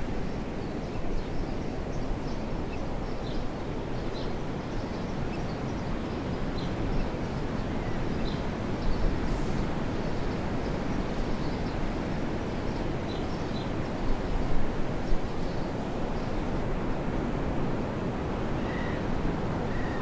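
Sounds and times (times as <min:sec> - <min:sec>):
rushing outdoor ambience: 0:00.0 - 0:20.0.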